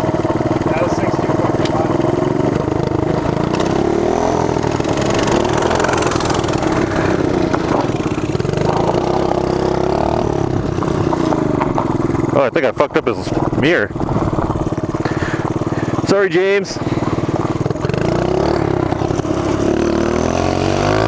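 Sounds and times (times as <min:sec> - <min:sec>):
mini bike engine running: 0:00.0 - 0:21.0.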